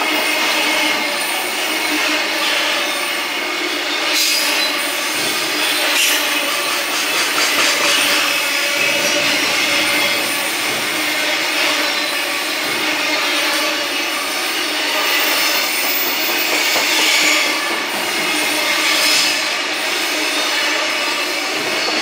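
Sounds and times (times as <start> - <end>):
freight train wheels on track: 0.0 - 22.0.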